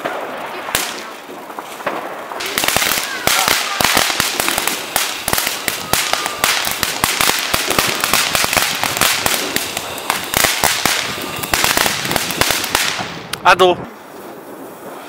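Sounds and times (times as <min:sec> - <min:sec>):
firework spraying sparks: 0:00.0 - 0:15.0.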